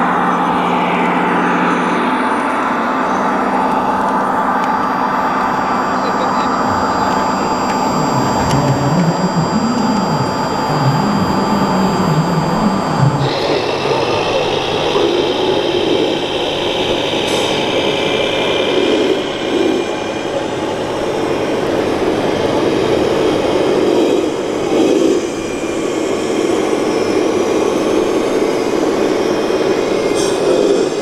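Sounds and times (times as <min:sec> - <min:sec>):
high whine: 0:00.0 - 0:31.0
toy trucks mechanical hum: 0:00.0 - 0:31.0.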